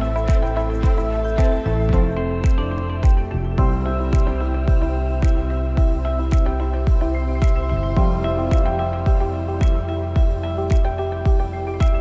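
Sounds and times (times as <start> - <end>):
steady low drum beat: 0.0 - 12.0.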